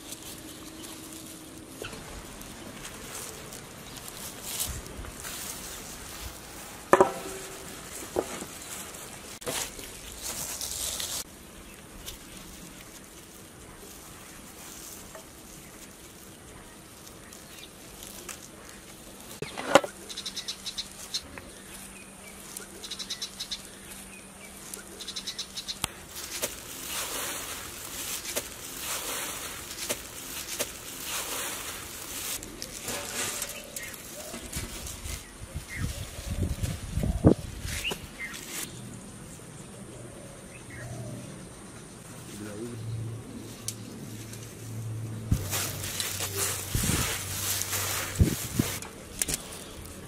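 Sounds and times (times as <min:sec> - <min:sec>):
rustling and crunching of breading: 0:00.0 - 0:19.5, 0:20.4 - 0:38.7, 0:45.3 - 0:50.0.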